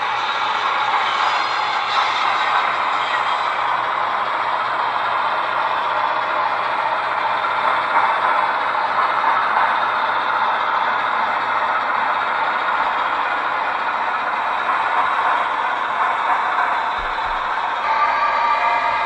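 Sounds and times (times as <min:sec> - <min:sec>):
diesel engine sound with clatter: 0:00.0 - 0:19.0
model locomotive running past: 0:00.0 - 0:19.0.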